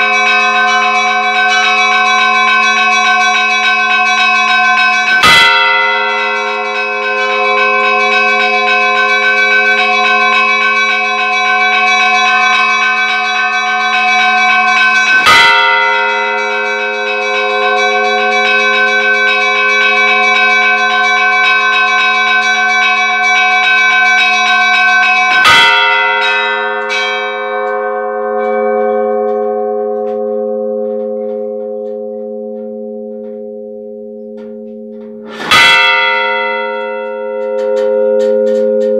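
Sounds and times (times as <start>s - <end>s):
heavy bell strikes: 0.0s - 38.9s
small bells chiming: 0.0s - 38.9s.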